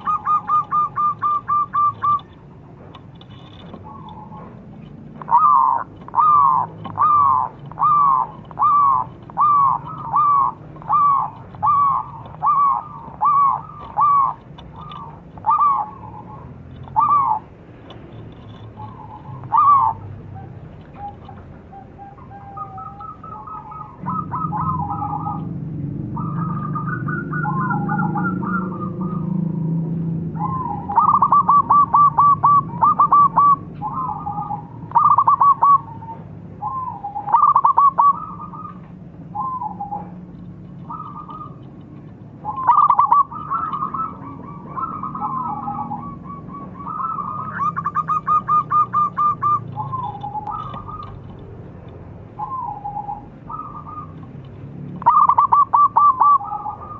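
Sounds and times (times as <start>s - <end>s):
dove cooing: 0.0s - 17.6s, 18.4s - 56.9s.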